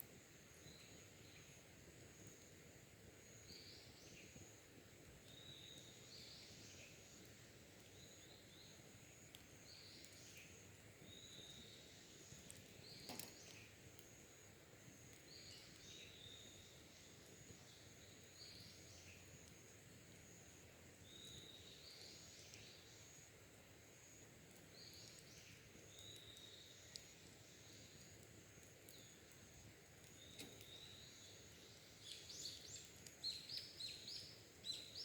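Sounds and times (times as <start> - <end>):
faint bird song: 0.0 - 35.0.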